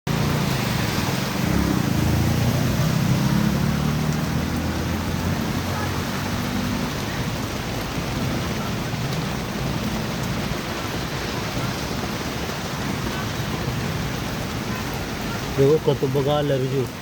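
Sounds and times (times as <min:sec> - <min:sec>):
heavy rain pouring: 0:00.1 - 0:17.0.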